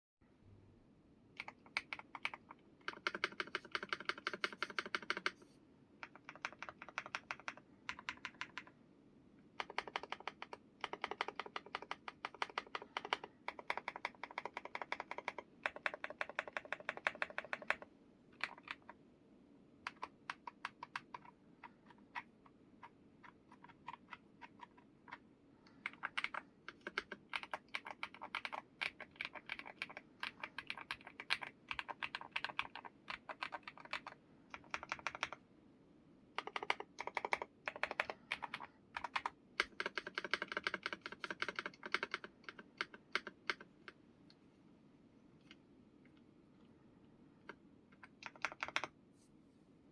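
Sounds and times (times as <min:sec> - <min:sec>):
mechanical keyboard typing: 0:01.4 - 0:05.4, 0:06.0 - 0:08.8, 0:09.5 - 0:19.0, 0:19.8 - 0:35.4, 0:36.4 - 0:44.0, 0:47.4 - 0:49.0.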